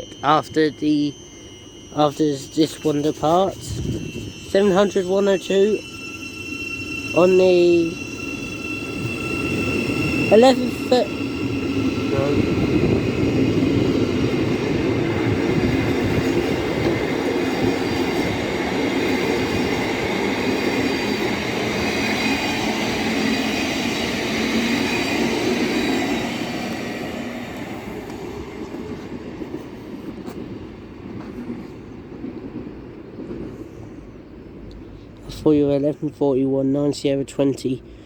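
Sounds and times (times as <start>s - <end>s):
train traction whine: 0.0s - 35.7s
train wheels rumbling on rail: 0.0s - 36.0s.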